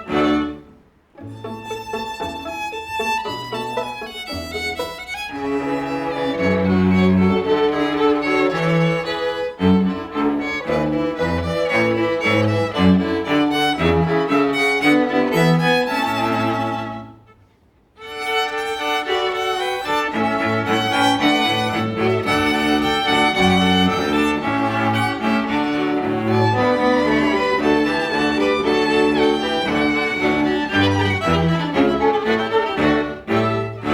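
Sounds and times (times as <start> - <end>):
string ensemble playing: 0.0 - 33.9.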